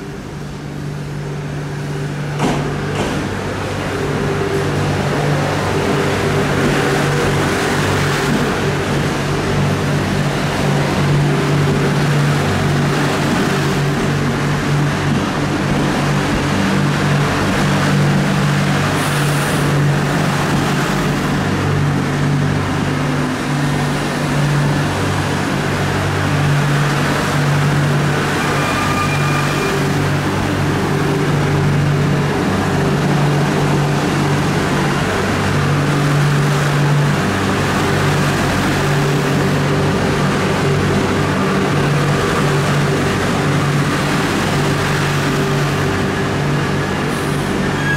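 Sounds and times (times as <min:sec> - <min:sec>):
electric train humming: 0:00.0 - 0:47.9.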